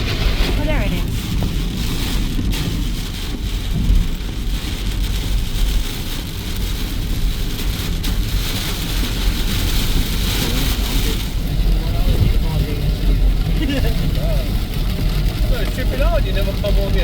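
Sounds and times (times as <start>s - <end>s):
heavy rain hissing: 0.0s - 17.0s
vehicle rumbling on road: 0.0s - 17.0s.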